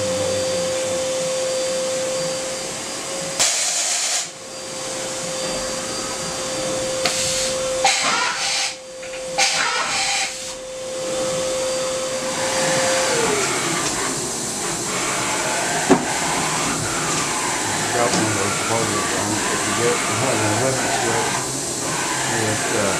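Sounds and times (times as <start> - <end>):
milling machine whine: 0.0 - 22.9.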